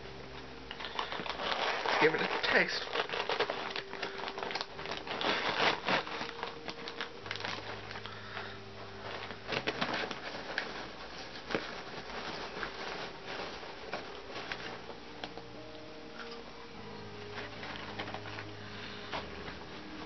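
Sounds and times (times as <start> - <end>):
plastic snack bag crinkling: 0.0 - 20.0.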